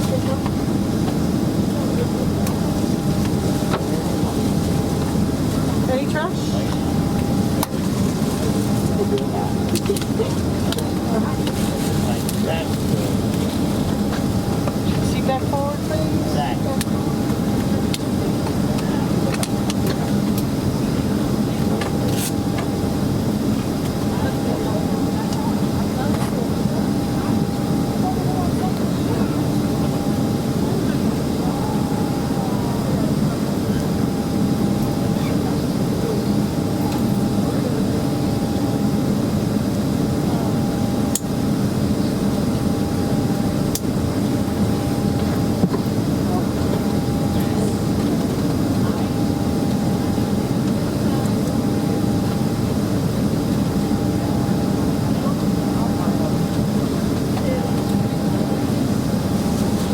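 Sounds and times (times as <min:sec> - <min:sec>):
air-conditioning rush: 0:00.0 - 0:59.9
airplane cabin drone: 0:00.0 - 0:59.9
thin steady whine: 0:00.0 - 0:59.9.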